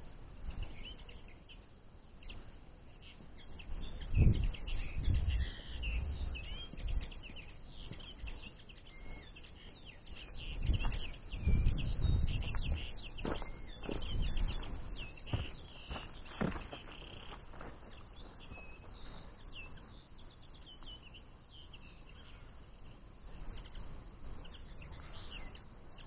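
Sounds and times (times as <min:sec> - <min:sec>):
birds twittering: 0:00.0 - 0:26.0.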